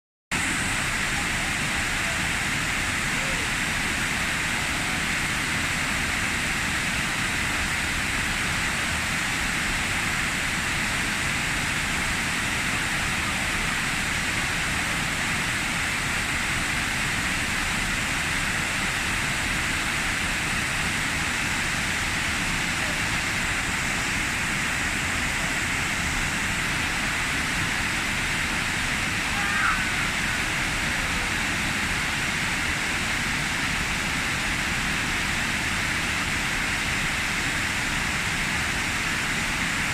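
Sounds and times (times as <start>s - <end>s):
waterfall roaring: 0.4s - 39.9s.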